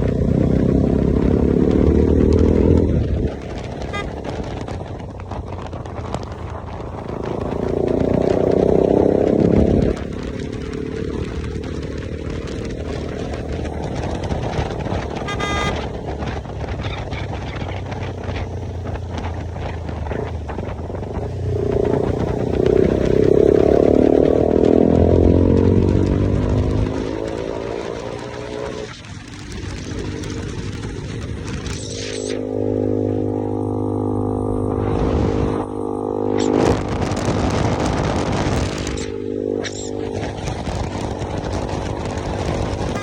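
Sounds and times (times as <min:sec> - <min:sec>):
motorcycle accelerating: 0:00.0 - 0:43.0.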